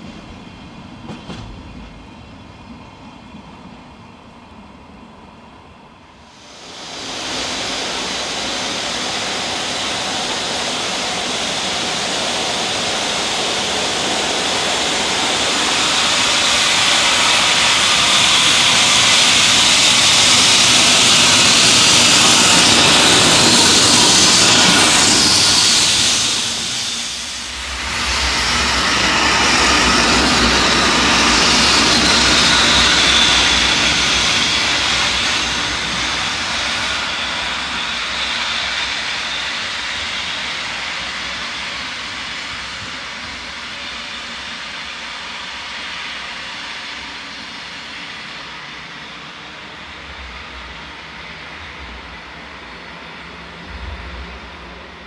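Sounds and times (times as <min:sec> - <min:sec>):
electric locomotive passing roar: 0:00.0 - 0:55.0.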